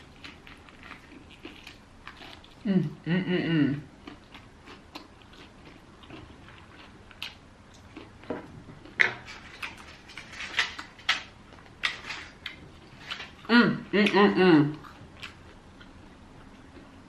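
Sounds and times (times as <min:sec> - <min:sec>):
crunchy chewing: 0:00.0 - 0:02.7, 0:03.8 - 0:13.5, 0:14.7 - 0:17.0.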